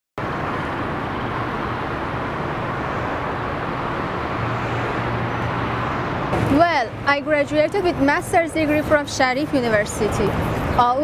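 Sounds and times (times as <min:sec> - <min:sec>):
traffic rushing past: 0:00.2 - 0:11.0.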